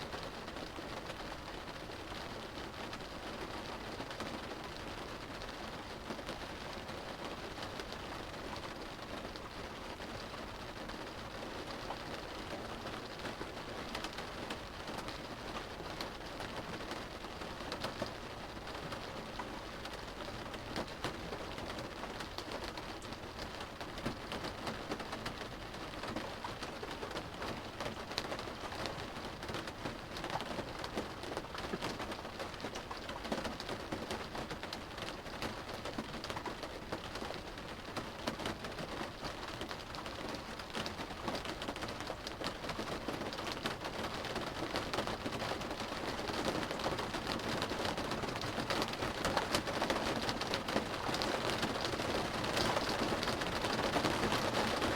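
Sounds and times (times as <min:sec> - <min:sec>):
rain drumming on a car roof: 0:00.0 - 0:54.9.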